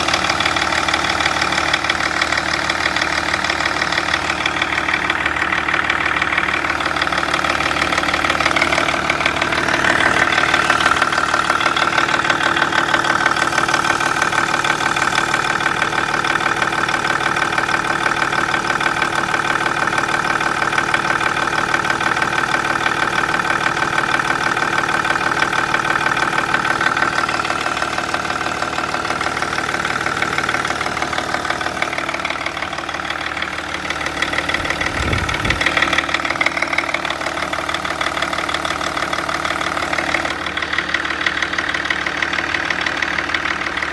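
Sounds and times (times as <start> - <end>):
diesel engine idling with clatter: 0.0 - 43.9.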